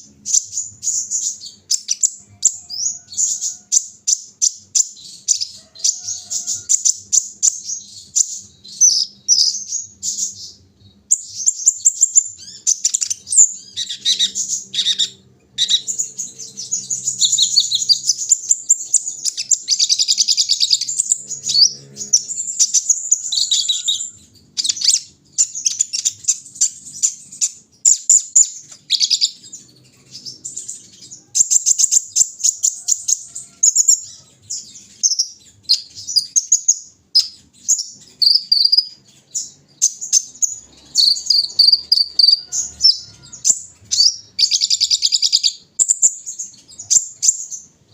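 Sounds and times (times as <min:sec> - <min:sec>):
bird singing high-pitched chirps: 0:00.0 - 0:47.8.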